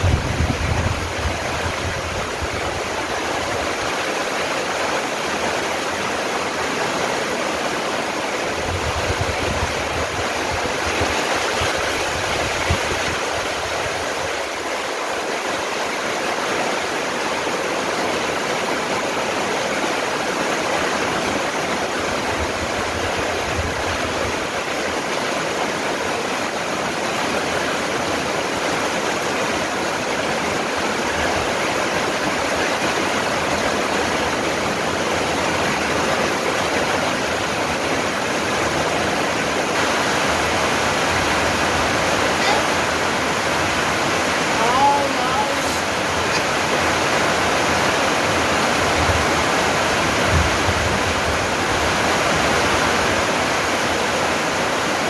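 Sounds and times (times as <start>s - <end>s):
rain on leaves: 0.0s - 55.0s.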